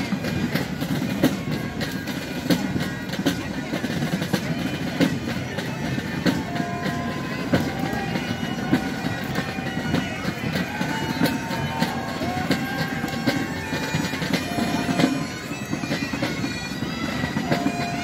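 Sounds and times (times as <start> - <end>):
distant drum strokes: 0.1 - 18.0.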